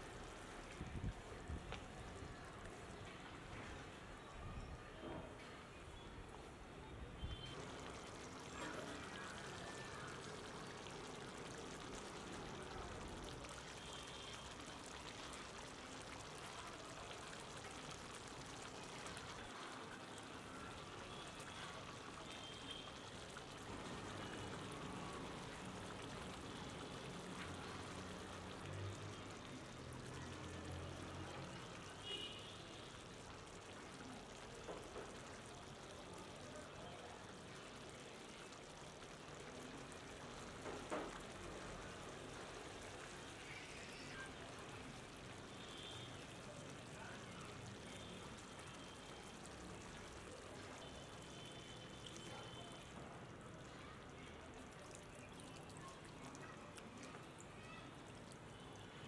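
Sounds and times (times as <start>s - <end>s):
faint watery liquid sound: 0.0s - 59.0s.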